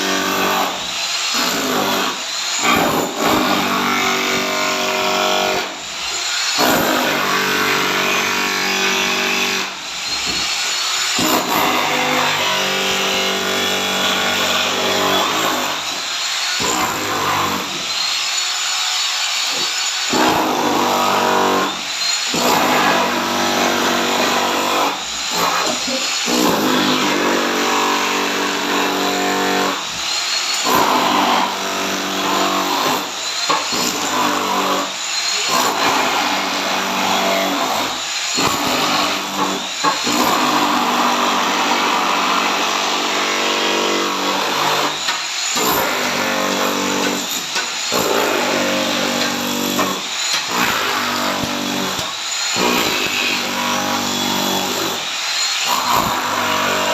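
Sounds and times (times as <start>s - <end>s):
electric power tool motor: 4.0s - 56.9s.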